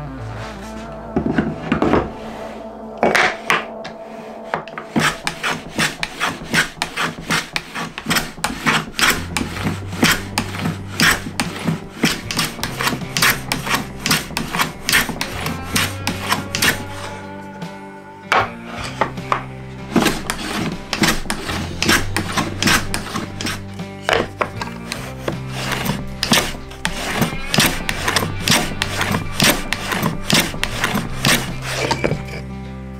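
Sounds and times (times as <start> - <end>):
faint background music: 0.0 - 32.9
hand plane rasping through wood: 4.5 - 17.3, 18.4 - 32.5.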